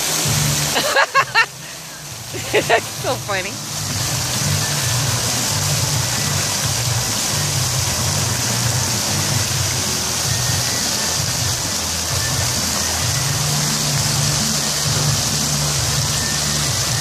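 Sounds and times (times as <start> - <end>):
fountain jet spraying water: 0.0 - 17.0.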